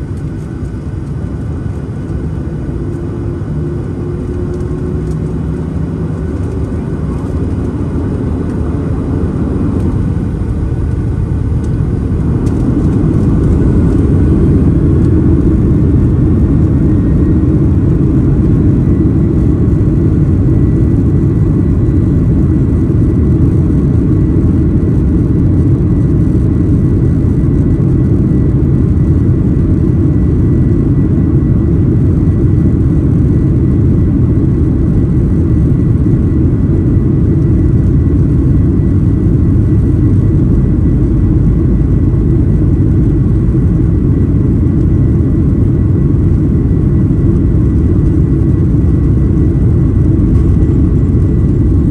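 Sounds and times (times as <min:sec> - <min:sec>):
jet engines rumbling in cabin: 0:00.0 - 0:51.9.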